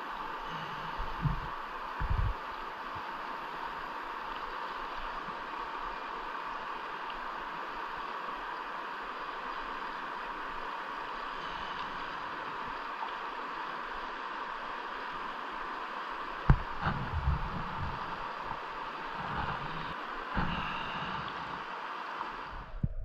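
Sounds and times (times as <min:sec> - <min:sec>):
water rushing: 0:00.0 - 0:22.9.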